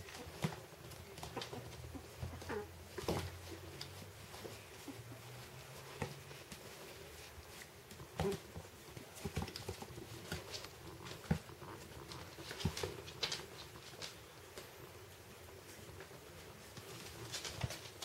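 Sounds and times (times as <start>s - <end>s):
puppy paws and claws on floor: 0.0s - 18.0s.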